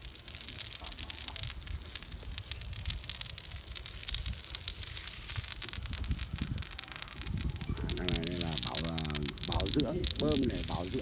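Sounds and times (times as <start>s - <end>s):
hose water spattering on concrete: 0.0s - 11.0s.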